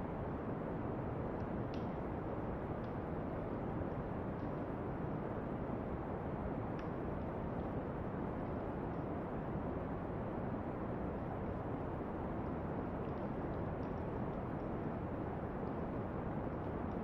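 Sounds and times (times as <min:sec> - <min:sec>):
brown noise hiss: 0:00.0 - 0:17.0
campfire crackles: 0:00.4 - 0:17.0.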